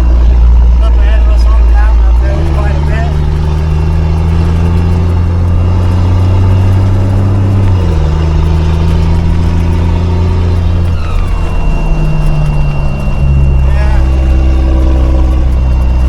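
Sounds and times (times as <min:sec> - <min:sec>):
truck engine running under load: 0:00.0 - 0:16.0.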